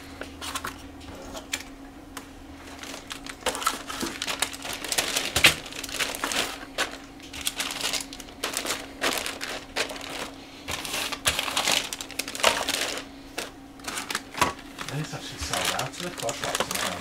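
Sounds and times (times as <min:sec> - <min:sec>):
plastic bags crinkling: 0:02.6 - 0:17.0.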